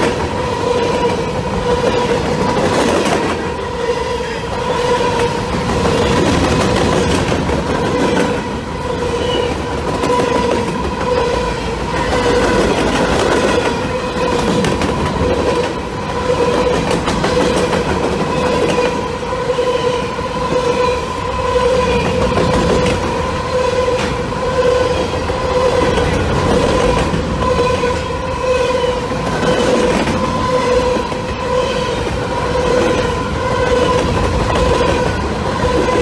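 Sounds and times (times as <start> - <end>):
train wheels rumbling and clicking: 0.0 - 36.0.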